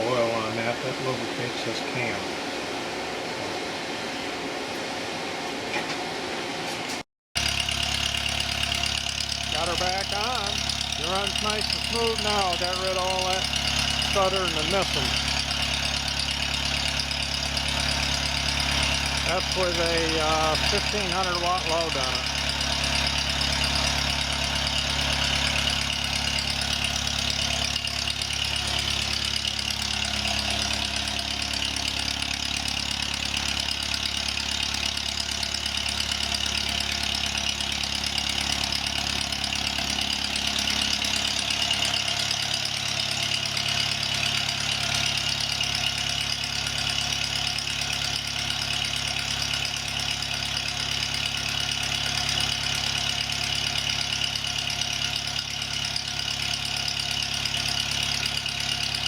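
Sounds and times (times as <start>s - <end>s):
generator engine running: 7.4s - 59.0s.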